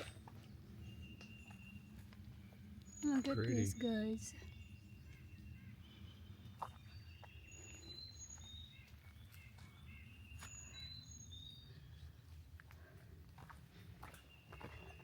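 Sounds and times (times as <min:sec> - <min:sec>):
faint whistled birdsong: 0:00.0 - 0:15.0.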